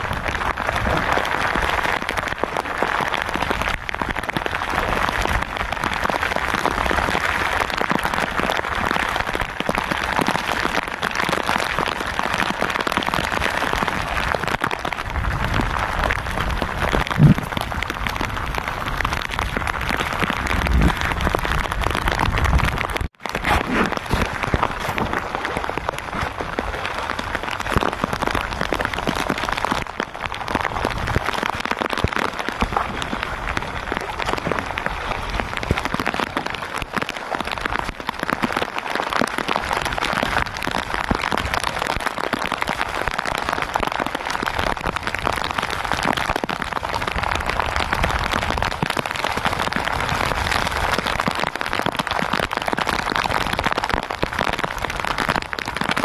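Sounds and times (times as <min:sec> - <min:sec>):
rain falling on sea and boat: 0:00.0 - 0:56.0.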